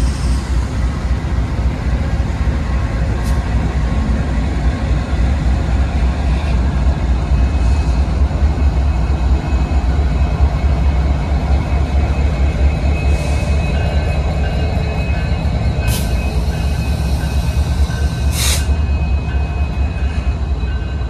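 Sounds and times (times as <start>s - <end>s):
train rumbling by: 0.0s - 21.0s.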